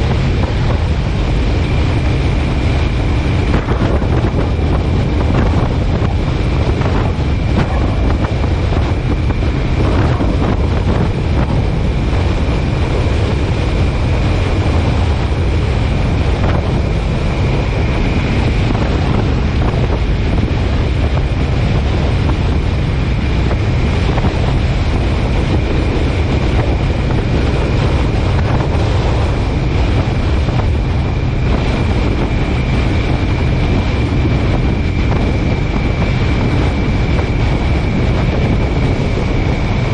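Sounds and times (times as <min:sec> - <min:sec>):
car road noise rumble: 0:00.0 - 0:39.9
wind buffeting microphone: 0:00.0 - 0:39.9.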